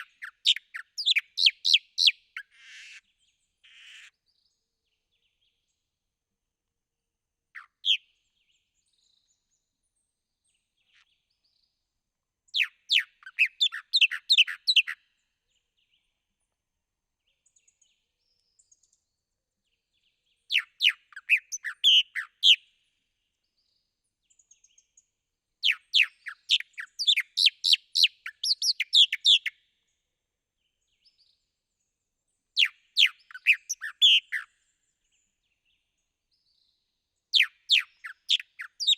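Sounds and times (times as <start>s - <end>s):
songbird singing: 0.0s - 6.2s, 7.5s - 38.9s.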